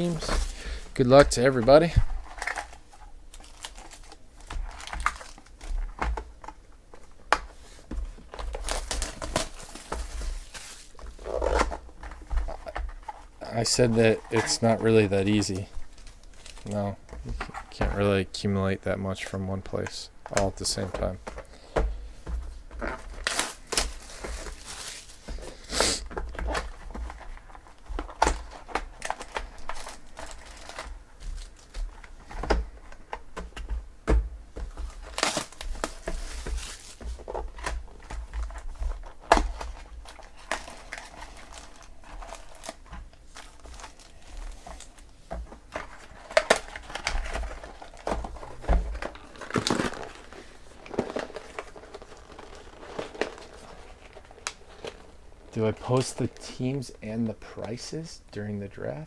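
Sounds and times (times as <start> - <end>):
foil packs crinkling: 0.0 - 7.2, 8.1 - 17.8, 22.7 - 33.7, 34.6 - 58.1
cellophane crinkling and tearing: 0.0 - 7.3, 8.1 - 17.8, 22.7 - 33.4, 34.6 - 57.8.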